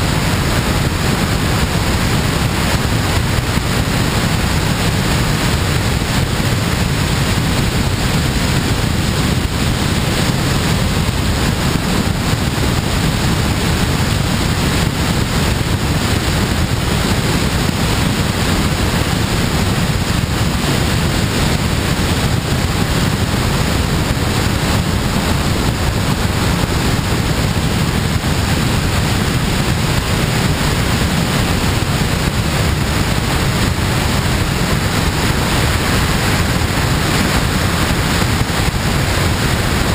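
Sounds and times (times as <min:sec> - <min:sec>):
airflow buffeting microphone: 0:00.0 - 0:39.9.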